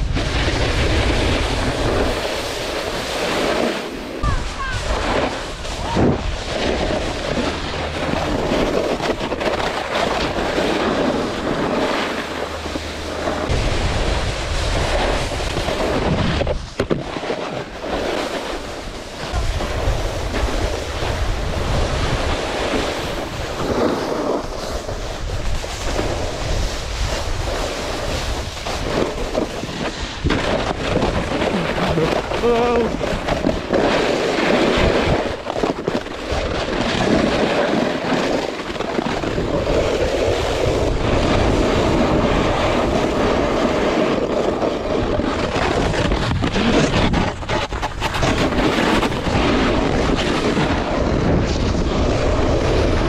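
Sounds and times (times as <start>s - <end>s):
snowboard scraping over snow: 0.0s - 53.0s
wind buffeting microphone: 0.0s - 53.0s.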